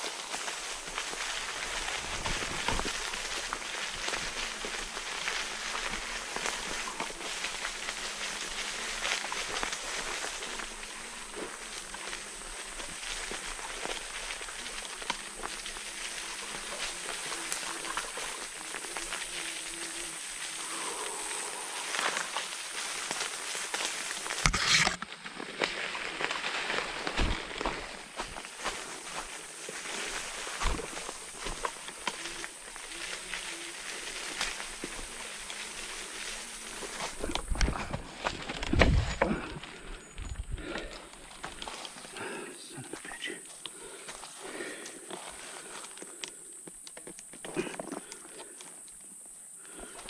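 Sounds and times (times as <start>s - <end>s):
leaf litter and twigs crackling: 0.0s - 50.0s.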